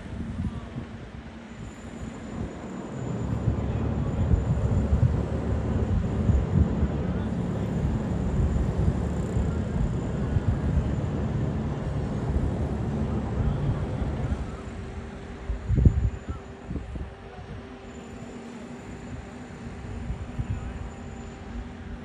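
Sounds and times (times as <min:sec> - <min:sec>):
wind buffeting microphone: 0:00.0 - 0:17.9, 0:18.8 - 0:22.0
boat engines rumbling: 0:00.0 - 0:22.0.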